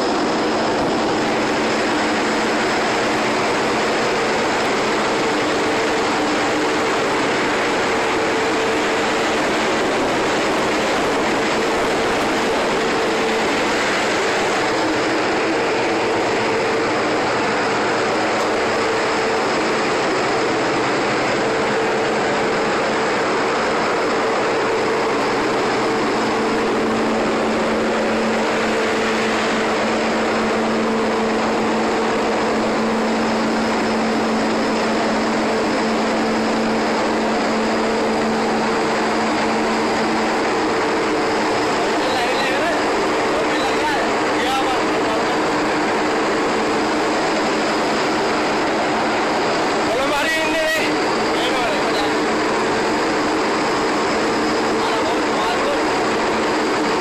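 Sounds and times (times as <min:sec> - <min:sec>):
boat diesel engines droning: 0:00.0 - 0:57.0.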